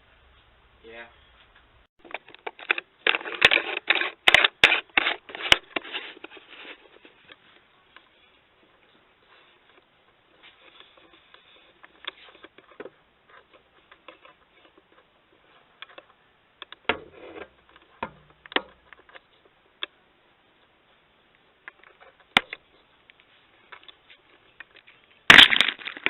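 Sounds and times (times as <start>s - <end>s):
objects being handled: 1.4s - 20.0s, 20.9s - 26.0s.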